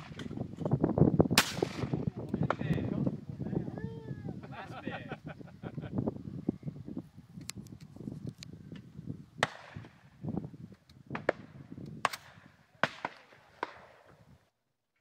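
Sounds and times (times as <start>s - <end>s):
wind noise on microphone: 0.0s - 14.5s.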